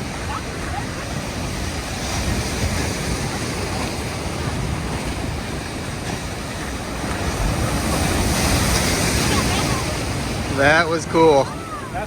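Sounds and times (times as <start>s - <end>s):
surf breaking against pier: 0.0s - 12.0s
wind rumbling on microphone: 0.0s - 12.0s.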